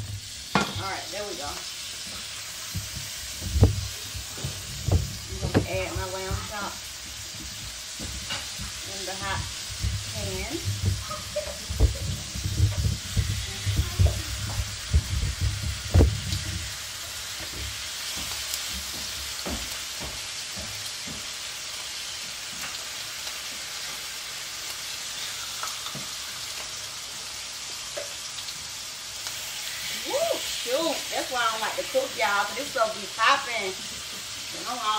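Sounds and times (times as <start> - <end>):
meat sizzling in a frying pan: 0.0 - 34.9.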